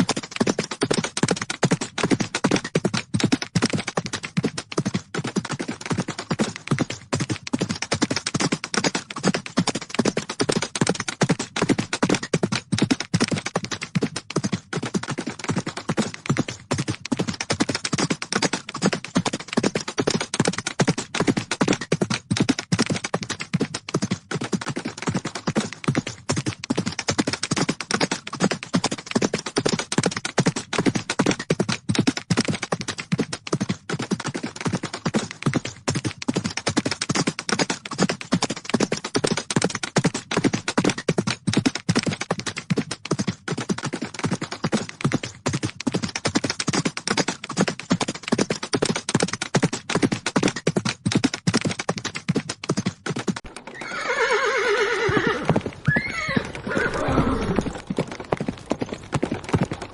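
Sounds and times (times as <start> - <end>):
horse hooves galloping: 0.0 - 59.9.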